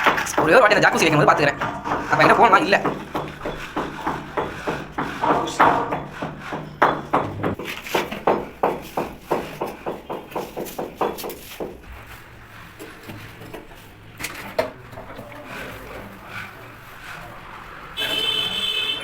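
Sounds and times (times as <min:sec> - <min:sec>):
rapid repeated knocks: 0:00.0 - 0:18.7.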